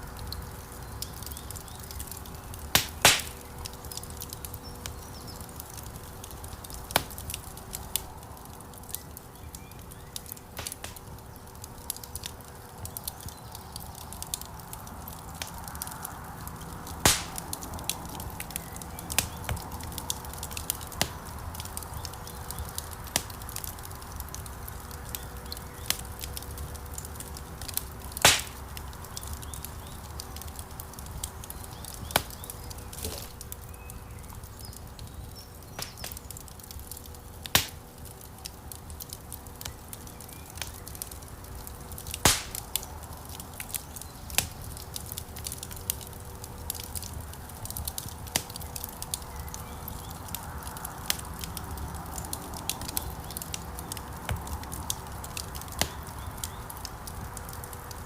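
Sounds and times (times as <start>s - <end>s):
fire flames rumbling: 0.0s - 58.0s
logs crackling and popping: 0.0s - 58.0s.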